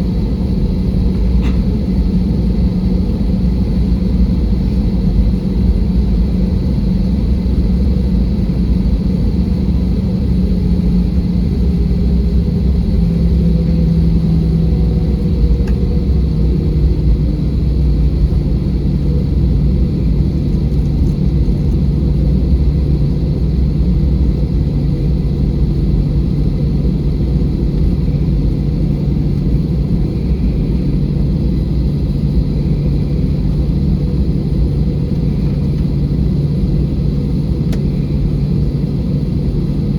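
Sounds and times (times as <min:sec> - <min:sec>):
jet engine and airflow noise: 0:00.0 - 0:39.9
low cabin hum: 0:00.0 - 0:39.9.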